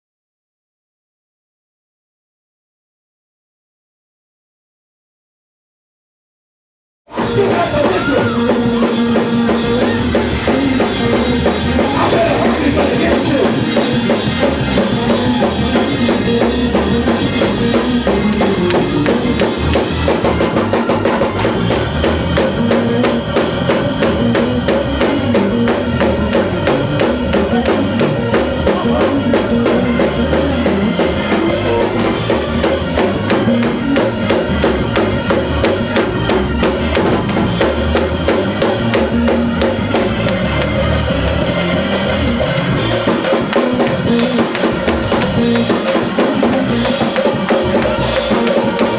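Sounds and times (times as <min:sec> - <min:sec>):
bass: 0:07.1 - 0:48.9
drum kit: 0:07.1 - 0:48.9
tambourine fast beat: 0:07.1 - 0:48.9.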